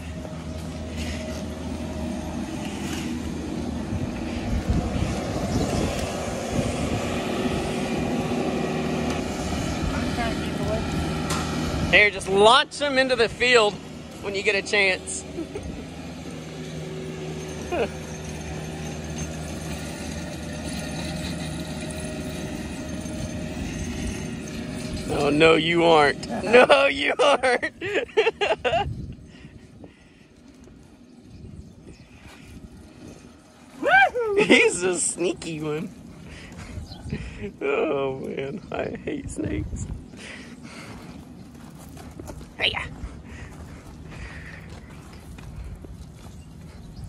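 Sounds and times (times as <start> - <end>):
low engine drone: 0.0 - 47.0
low mechanical motor hum: 0.0 - 47.0.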